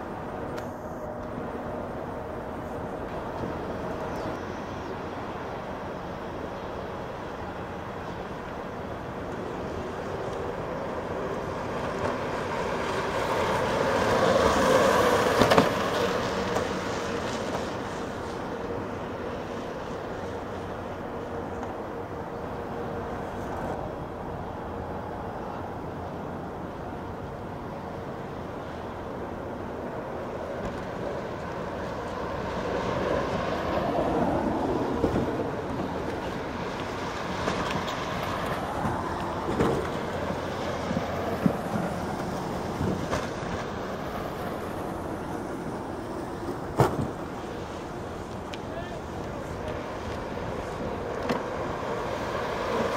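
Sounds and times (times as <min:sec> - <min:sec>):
bicycle tyres whirring on asphalt: 0:00.0 - 0:52.9
bikes rolling on pavement: 0:00.0 - 0:52.9.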